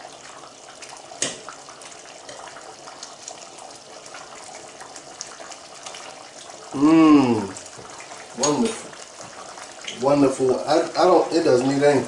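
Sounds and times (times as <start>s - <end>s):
sauce bubbling in a pot: 0.0s - 12.0s.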